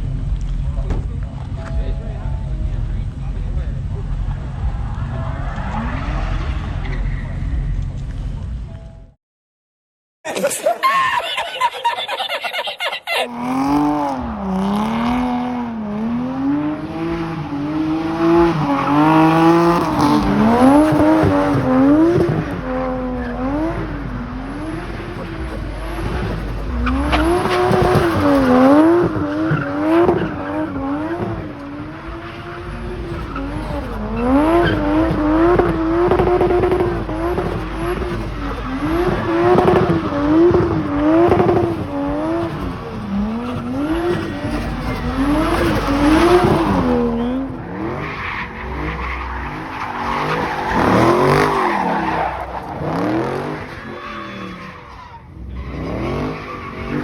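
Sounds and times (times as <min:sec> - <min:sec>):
car engine revving: 0:00.0 - 0:08.6, 0:13.3 - 0:57.0
tires squealing: 0:03.2 - 0:08.4, 0:10.8 - 0:57.0.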